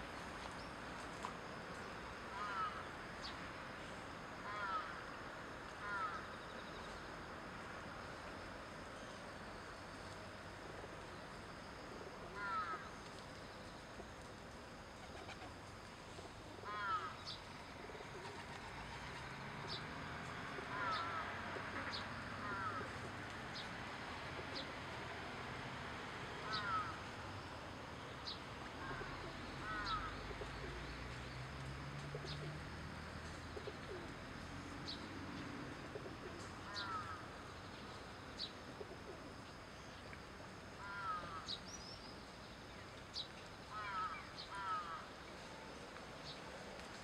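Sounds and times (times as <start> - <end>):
faint background hiss: 0.0 - 47.0.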